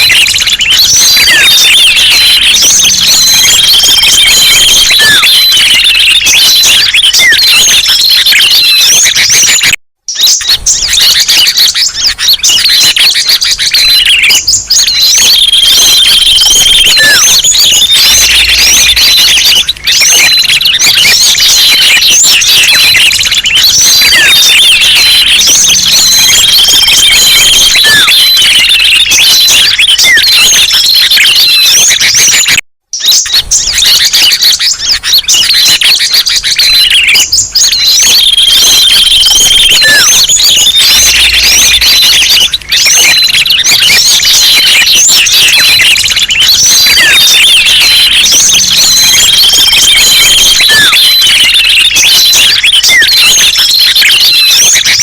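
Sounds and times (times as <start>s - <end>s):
songbirds chirping and whistling: 0.0s - 55.0s.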